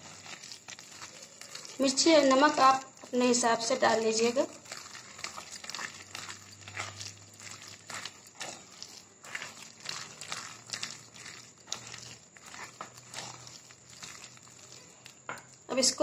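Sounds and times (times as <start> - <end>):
hand squishing batter in bowl: 0.0 - 16.0.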